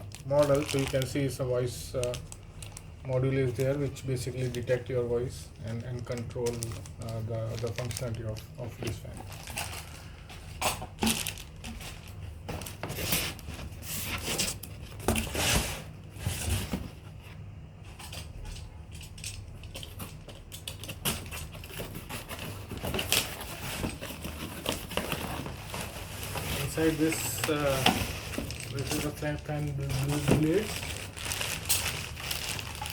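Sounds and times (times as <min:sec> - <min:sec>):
low background hum: 0:00.0 - 0:32.9
packaging crinkling and scraping: 0:00.0 - 0:32.9.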